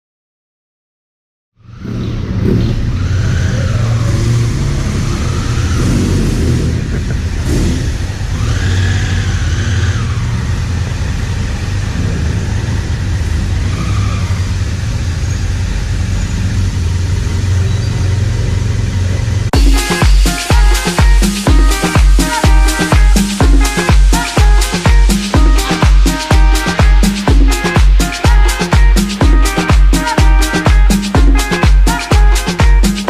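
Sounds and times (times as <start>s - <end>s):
motorcycle engines rumbling: 1.6s - 33.0s
motorcycles revving: 1.6s - 33.0s.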